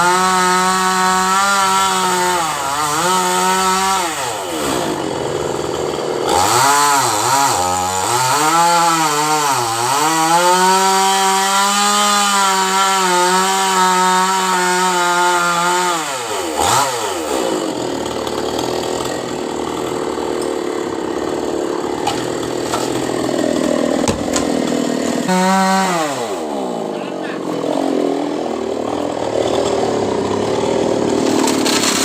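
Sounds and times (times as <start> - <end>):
chainsaw revving: 0.0 - 32.0.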